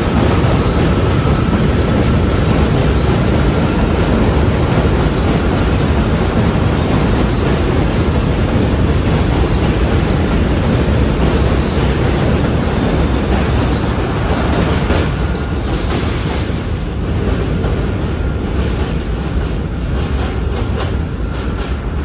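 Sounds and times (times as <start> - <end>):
subway train rumbling on bridge: 0.0 - 22.0.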